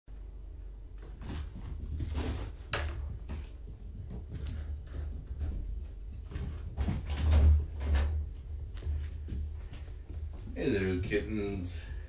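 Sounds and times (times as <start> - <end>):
kittens thumping and scuffling: 0.9 - 12.0.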